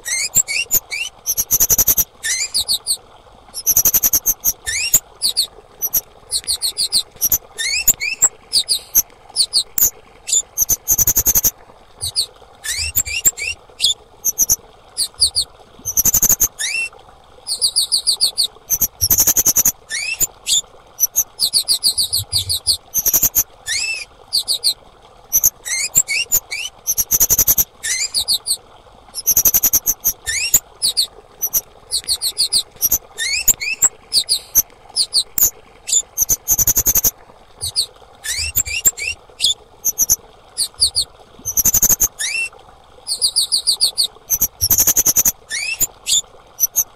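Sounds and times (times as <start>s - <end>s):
bird high-pitched chirps: 0.0s - 3.0s, 3.6s - 16.9s, 17.5s - 28.6s, 29.2s - 42.5s, 43.1s - 46.9s.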